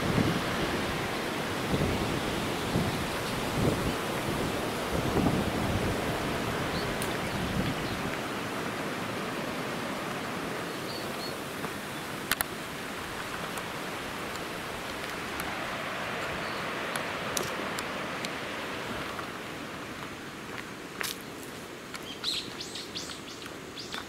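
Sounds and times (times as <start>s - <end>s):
steady rushing noise: 0.0s - 10.7s, 11.4s - 20.7s.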